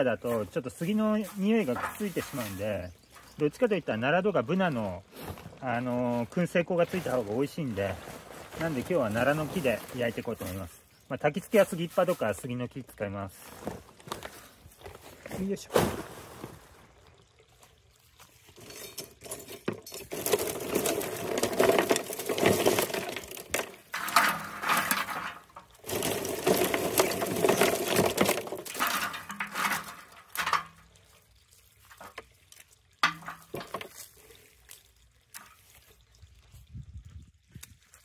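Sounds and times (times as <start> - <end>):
twigs rustling and clattering: 0.0 - 12.6, 13.3 - 17.0, 18.2 - 36.6.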